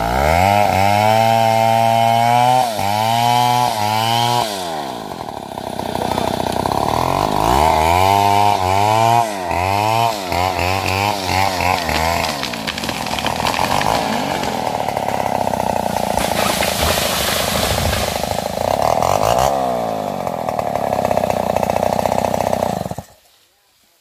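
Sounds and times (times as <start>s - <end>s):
chainsaw engine revving: 0.0s - 23.2s.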